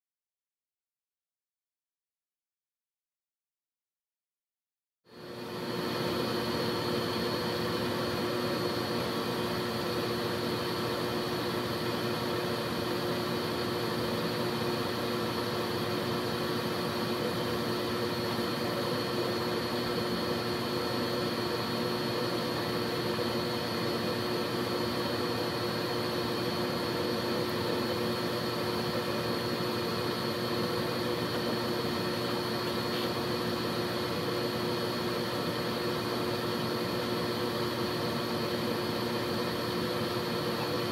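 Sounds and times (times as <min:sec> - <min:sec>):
laser engraver machine whir: 0:05.1 - 0:40.9.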